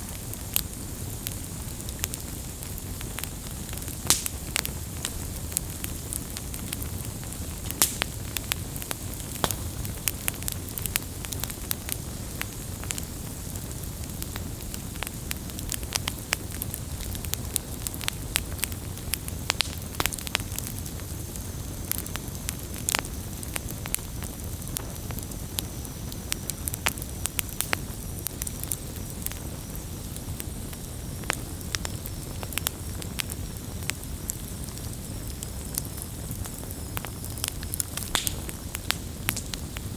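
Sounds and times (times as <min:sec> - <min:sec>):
fire low rumble and hiss: 0:00.0 - 0:39.9
wood fire crackling and popping: 0:00.0 - 0:39.9.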